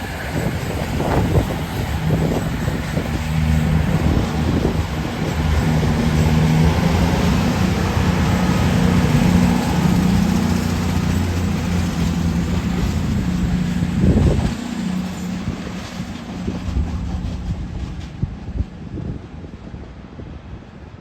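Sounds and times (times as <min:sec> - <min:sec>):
diesel train engine drone: 0:00.0 - 0:21.0.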